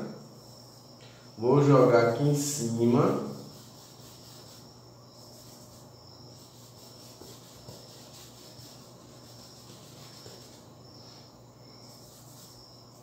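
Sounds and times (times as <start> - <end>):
paintbrush rubbing on canvas: 2.1 - 13.0.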